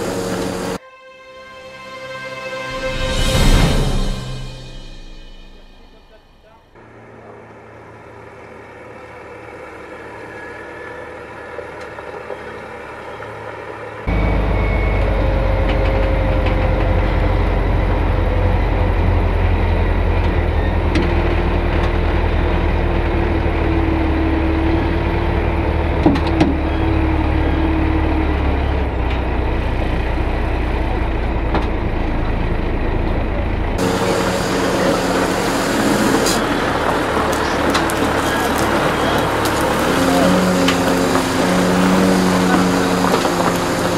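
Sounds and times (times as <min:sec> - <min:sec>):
truck diesel engine: 0:00.0 - 0:00.8, 0:02.2 - 0:43.9
engine whine: 0:00.0 - 0:43.9.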